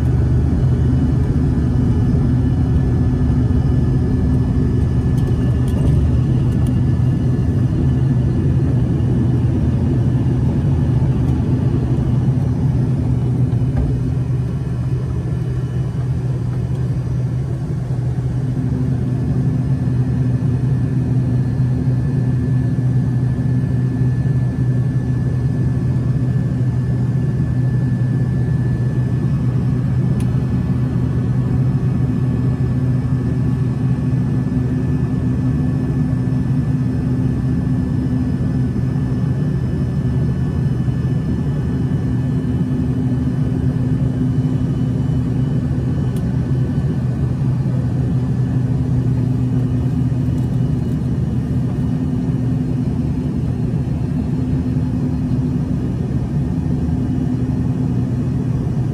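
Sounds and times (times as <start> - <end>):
jet engine drone: 0.0 - 58.9.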